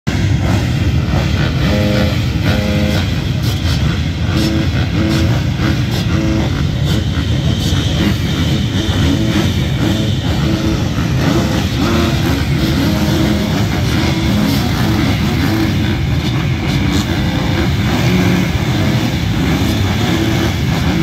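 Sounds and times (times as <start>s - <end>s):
motorbikes idling: 0.1s - 21.0s.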